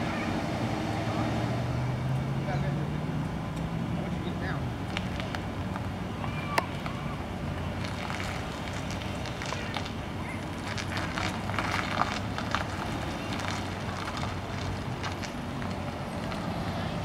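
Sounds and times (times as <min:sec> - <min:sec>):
car engine running low speed: 0:00.0 - 0:17.0.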